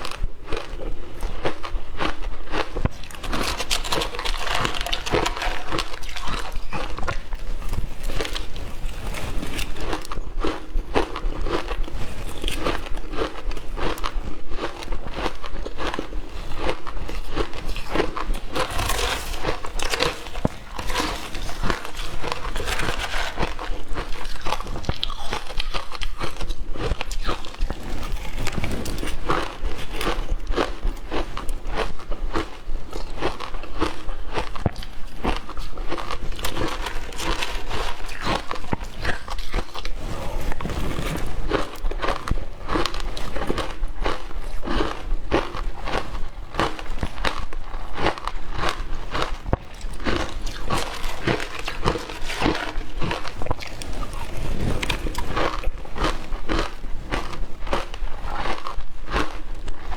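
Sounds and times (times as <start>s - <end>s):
ice crunching in mouth: 0.0s - 59.9s.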